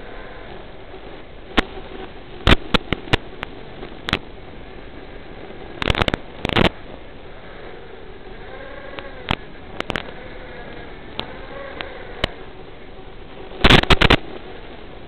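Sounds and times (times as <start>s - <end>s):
receiver static hiss: 0.0s - 15.0s
radio crackles and pops: 0.5s - 15.0s.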